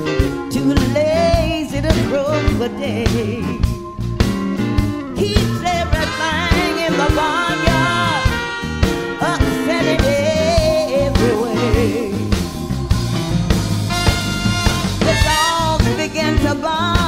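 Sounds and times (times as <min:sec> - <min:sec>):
bending lead melody: 0:00.0 - 0:17.0
drums keeping steady beat: 0:00.0 - 0:17.0.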